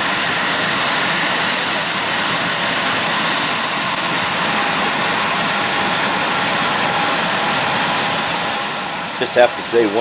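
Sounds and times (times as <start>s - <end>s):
diesel machinery engines running: 0.0s - 10.0s.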